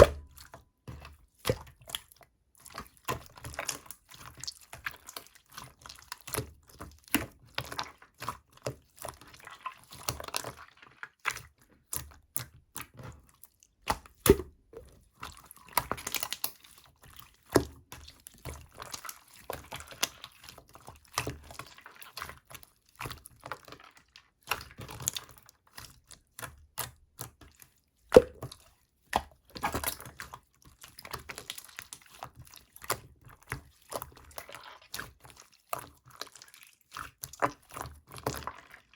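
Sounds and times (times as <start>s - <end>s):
slime squelching and popping: 0.0s - 38.9s.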